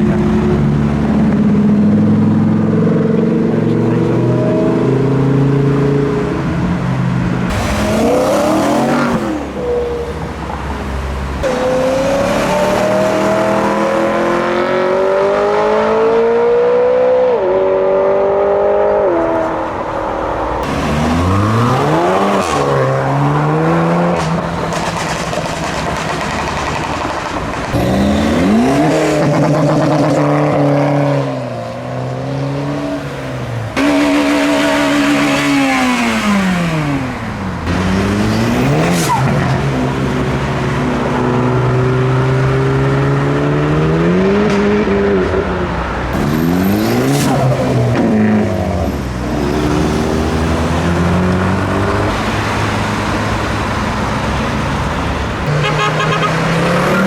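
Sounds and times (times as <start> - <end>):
car engines accelerating hard: 0.0 - 57.0.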